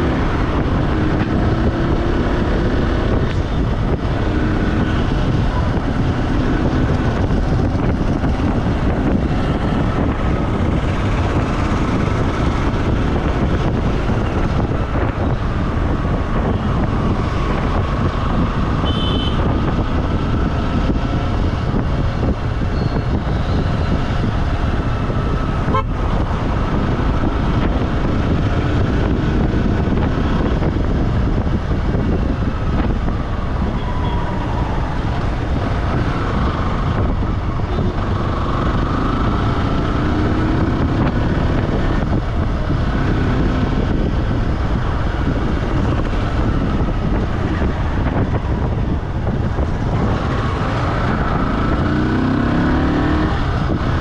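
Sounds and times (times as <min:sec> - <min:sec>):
vehicle road noise: 0:00.0 - 0:54.0.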